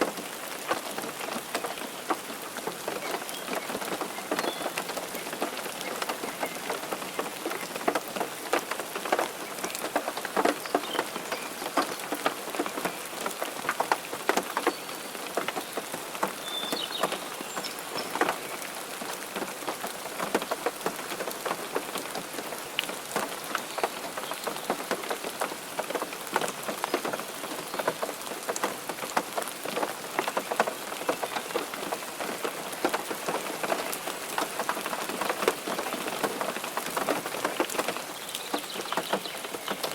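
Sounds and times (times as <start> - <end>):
raindrops striking a surface: 0.0 - 39.9
steady rain: 0.0 - 39.9.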